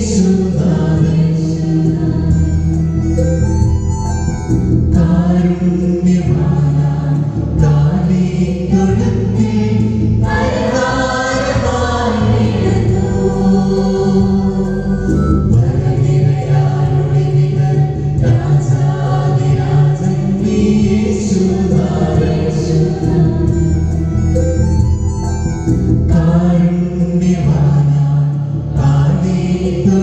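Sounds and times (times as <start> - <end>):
mixed choir singing a carol: 0.0 - 3.3, 4.9 - 24.6, 26.0 - 30.0.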